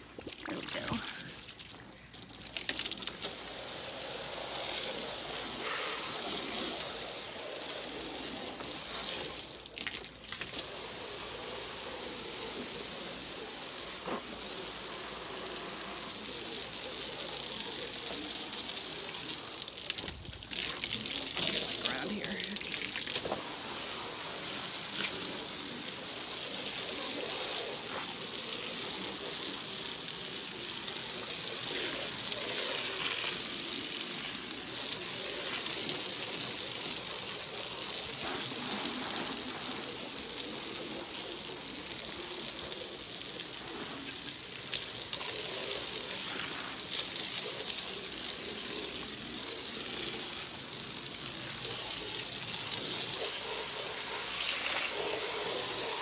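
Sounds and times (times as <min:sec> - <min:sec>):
hose spraying water on wooden deck: 0:00.0 - 0:56.0.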